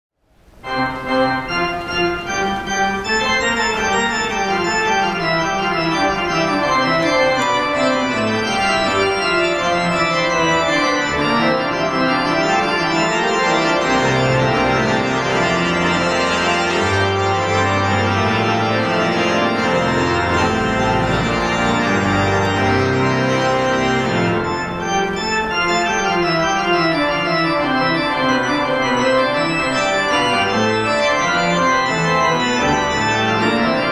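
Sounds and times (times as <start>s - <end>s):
pipe organ chords: 0.4s - 33.9s
deep organ bass notes: 0.6s - 33.9s.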